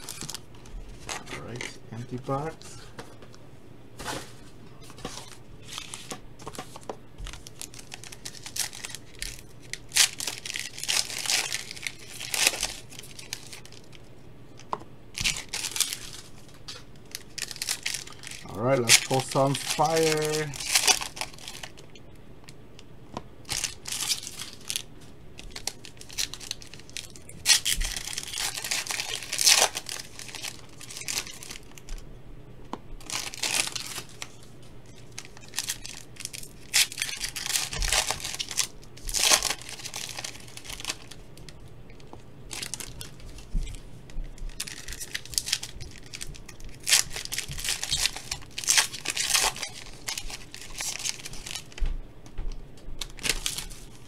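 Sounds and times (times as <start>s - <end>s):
foil wrappers tearing and crinkling: 0.0s - 2.5s, 5.0s - 14.1s, 15.2s - 22.0s, 23.4s - 32.0s, 33.0s - 41.6s, 42.5s - 51.8s, 53.0s - 54.0s.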